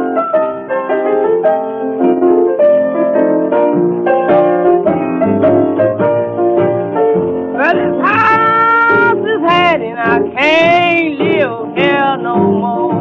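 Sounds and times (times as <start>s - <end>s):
blues piano: 0.0s - 13.0s.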